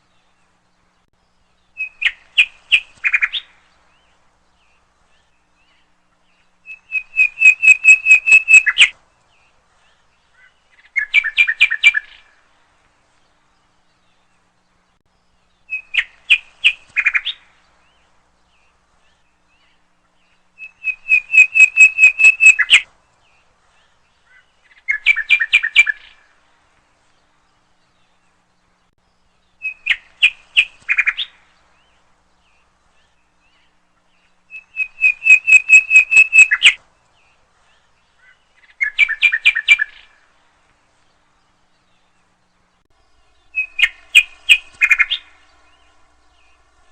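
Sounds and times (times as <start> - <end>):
nightingale singing: 0.0 - 12.4, 13.4 - 26.3, 27.3 - 40.4, 41.2 - 46.9.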